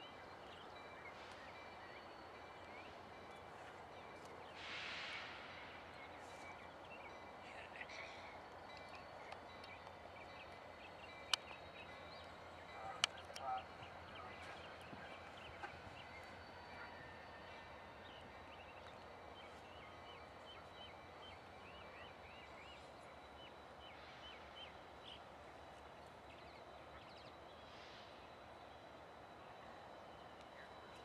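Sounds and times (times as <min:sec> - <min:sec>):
distant locomotive rumble: 0:00.0 - 0:31.0.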